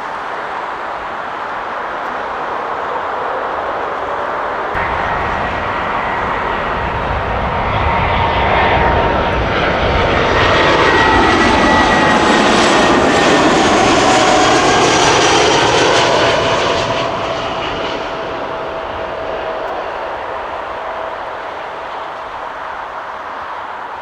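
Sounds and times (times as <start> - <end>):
jet airliner engine roar: 0.0 - 24.0
jet engine whine dropping in pitch: 0.0 - 24.0.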